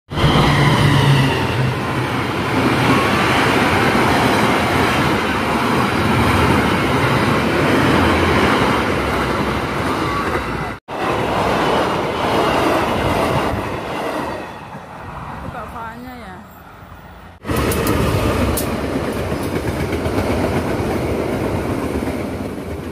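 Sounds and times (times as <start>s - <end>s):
train wheels rolling on track: 0.1s - 15.8s, 16.4s - 22.9s.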